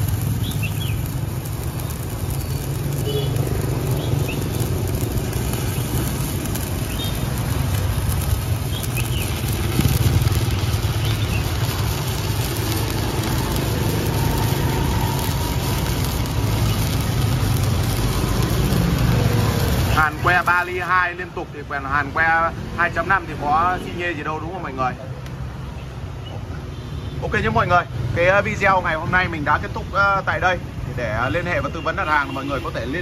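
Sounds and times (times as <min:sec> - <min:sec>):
welding arc crackling and sizzling: 0:00.0 - 0:26.0, 0:27.4 - 0:33.0.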